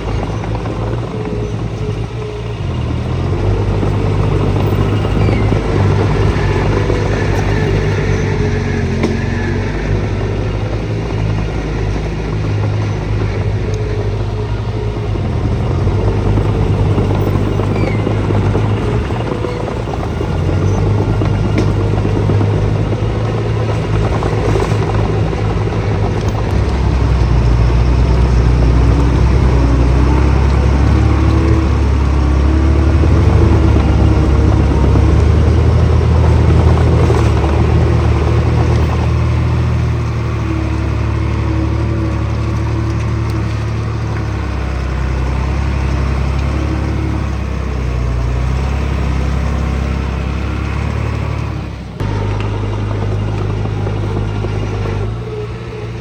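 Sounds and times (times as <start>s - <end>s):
diesel engines of heavy machinery: 0.0s - 56.0s.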